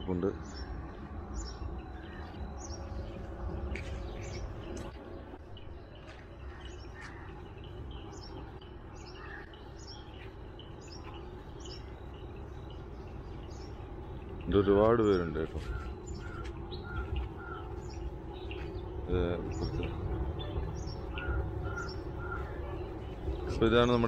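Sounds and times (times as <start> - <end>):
birds chirping: 0.0 - 24.0
low rumble: 0.0 - 24.0.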